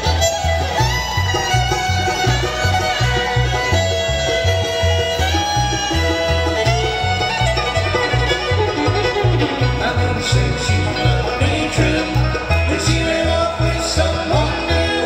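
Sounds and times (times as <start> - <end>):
banjo: 0.0 - 15.0
fiddle: 0.0 - 15.0
guitar: 0.0 - 15.0
upright bass thumping: 0.0 - 15.0.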